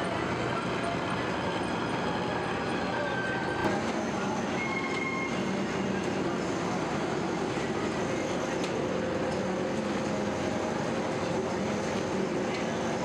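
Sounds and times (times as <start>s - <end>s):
workshop machinery running: 0.0s - 13.0s.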